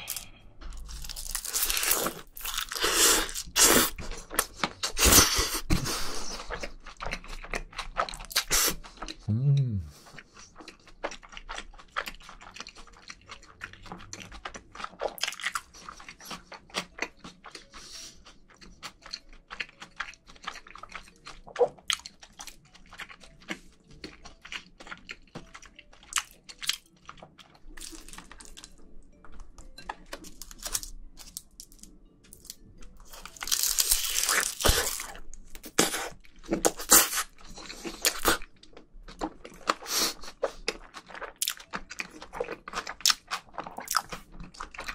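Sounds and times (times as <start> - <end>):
close chewing with wet mouth clicks: 2.2 - 9.3, 10.1 - 28.8, 33.1 - 44.9.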